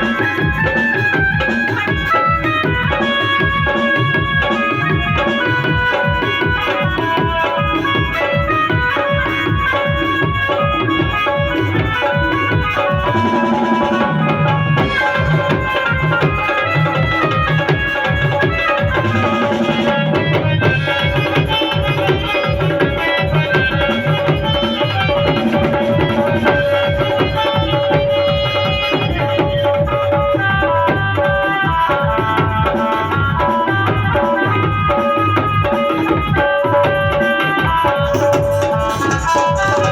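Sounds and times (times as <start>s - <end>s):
dhol drum beating: 0.0s - 39.9s
melody of held notes: 0.0s - 39.9s.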